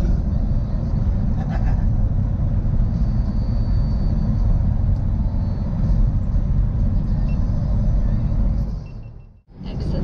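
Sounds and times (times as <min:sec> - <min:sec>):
truck engine drone: 0:00.0 - 0:10.0
tyre and road noise: 0:00.0 - 0:10.0.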